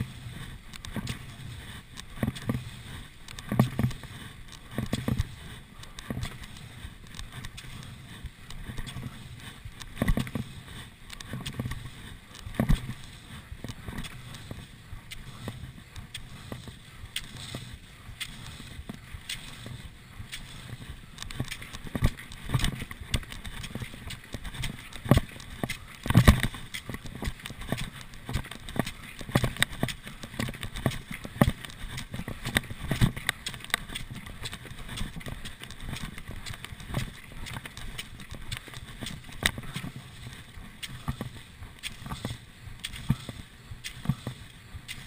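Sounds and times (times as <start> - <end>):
ski poles crunching into snow: 0.0 - 45.0
skis swishing on snow: 0.0 - 45.0.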